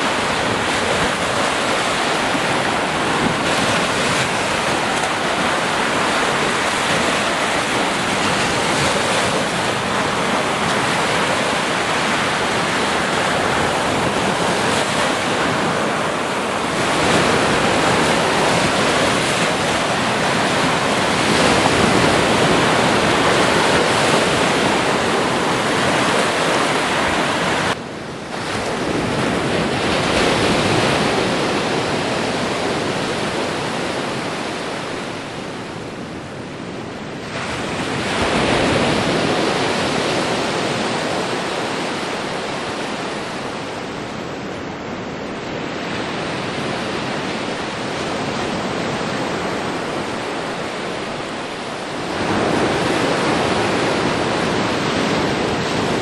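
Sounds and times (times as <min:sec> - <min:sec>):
surf breaking on beach: 0:00.0 - 0:56.0.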